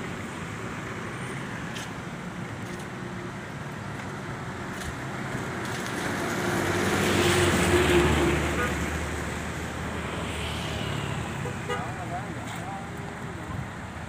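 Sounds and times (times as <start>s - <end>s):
road traffic on wet pavement: 0.0s - 14.0s
vehicle passing with tyre hiss: 0.1s - 12.9s.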